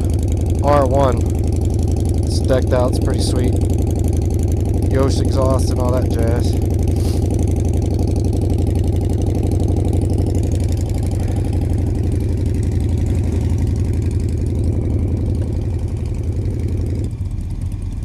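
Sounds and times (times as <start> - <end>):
motorcycle engines idling: 0.0 - 18.0.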